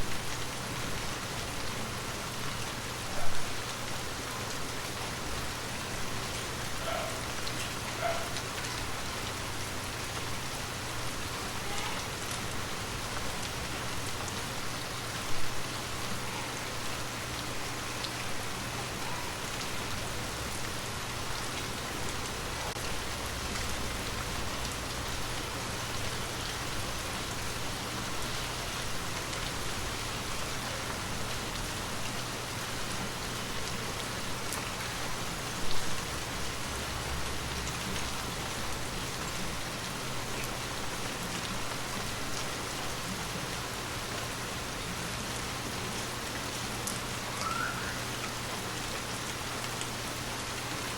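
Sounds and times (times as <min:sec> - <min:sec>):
raindrops striking a surface: 0:00.0 - 0:50.9
steady gentle rain: 0:00.0 - 0:50.9.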